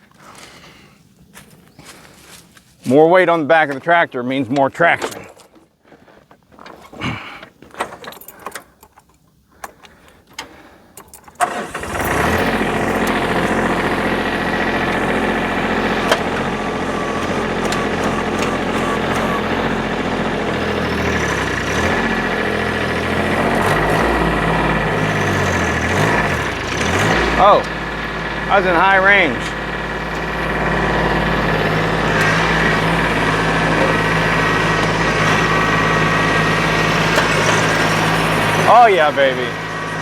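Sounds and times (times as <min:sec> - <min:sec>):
tractor engine starting and running: 0:02.9 - 0:05.4, 0:06.2 - 0:40.0.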